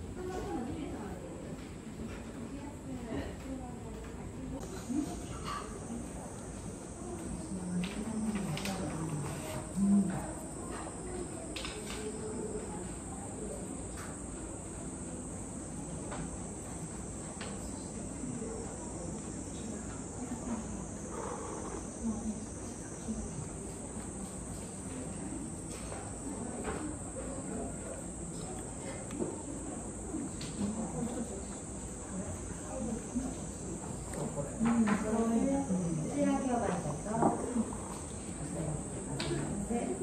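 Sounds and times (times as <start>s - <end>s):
cicadas droning: 4.6s - 40.0s.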